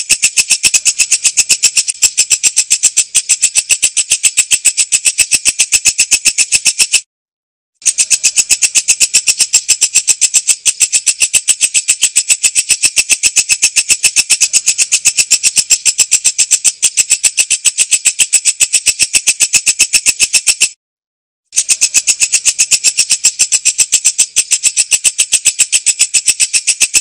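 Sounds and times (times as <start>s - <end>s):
katydid calling rapid ticks: 0.0s - 7.1s, 7.8s - 20.8s, 21.5s - 27.0s.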